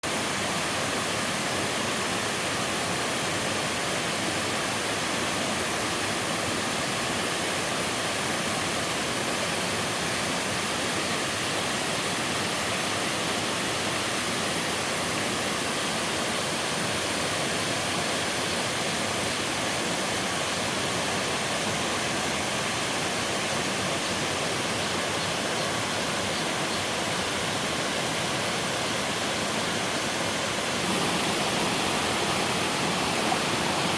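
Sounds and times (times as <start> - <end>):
waterfall rushing into pool: 0.0 - 33.9.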